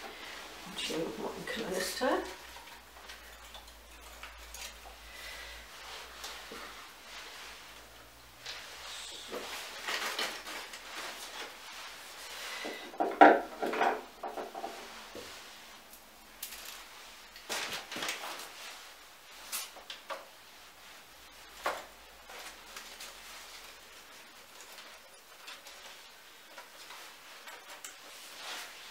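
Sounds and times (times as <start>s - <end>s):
leaves and stems rustling: 0.0s - 12.9s, 13.5s - 28.9s.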